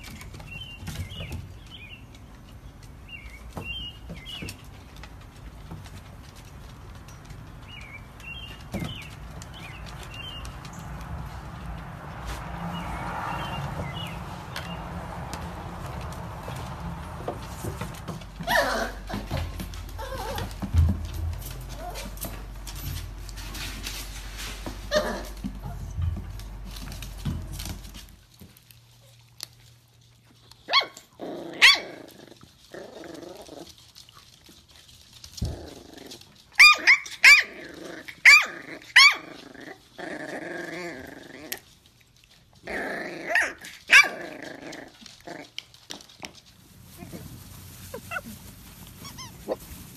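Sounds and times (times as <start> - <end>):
puppies growling and yipping: 7.2 - 28.2, 30.6 - 49.9.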